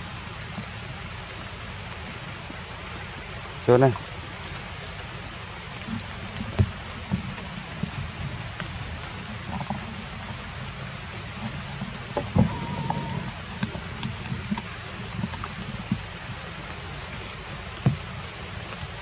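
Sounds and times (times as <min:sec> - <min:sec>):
light rain on foliage: 0:00.0 - 0:19.0.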